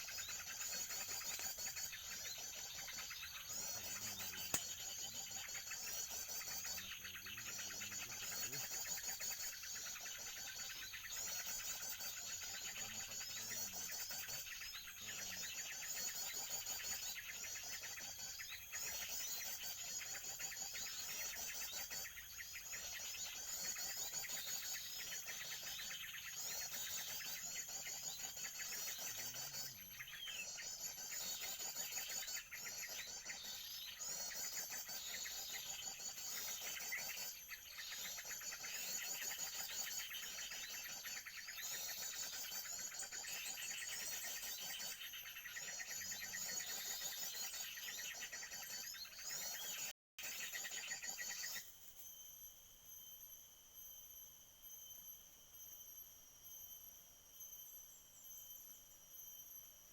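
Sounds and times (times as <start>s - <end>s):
high-pitched bird chirping: 0.0s - 51.6s.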